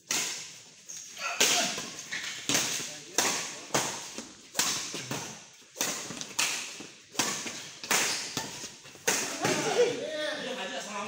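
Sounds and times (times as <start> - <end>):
racket hitting shuttlecock: 0.0 - 0.6, 1.2 - 9.9.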